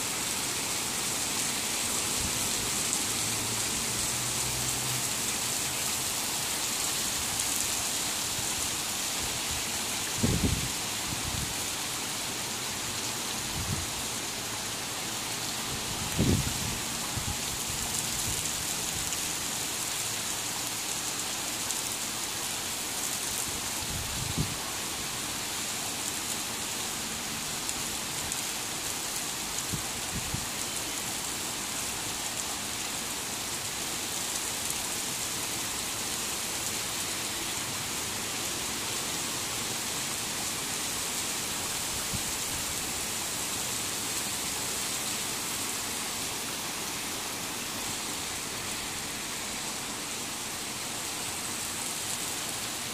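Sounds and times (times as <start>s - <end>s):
torrential rain: 0.0s - 52.9s.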